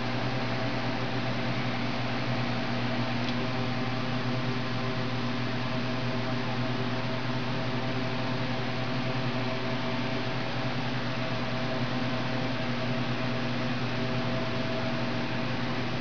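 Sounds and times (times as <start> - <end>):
refrigeration fans humming: 0.0 - 16.0.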